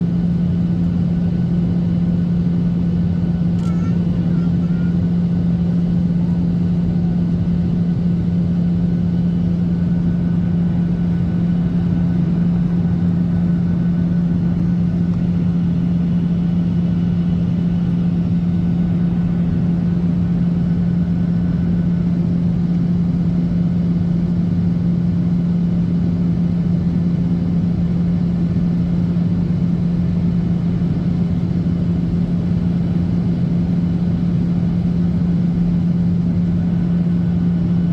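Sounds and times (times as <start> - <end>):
airplane cabin engine rush: 0.0 - 37.9
constant low drone: 0.0 - 37.9.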